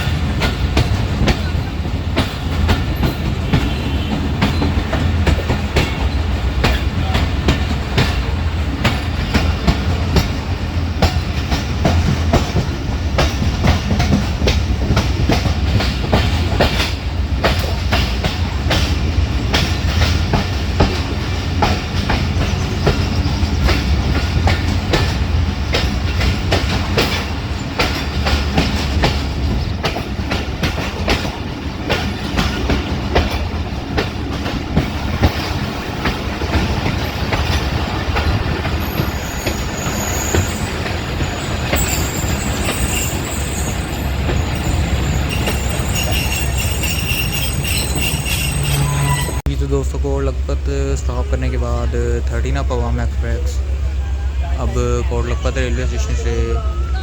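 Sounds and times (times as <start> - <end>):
train wheels clattering on track: 0.0 - 55.0
low train rumble: 0.0 - 57.0.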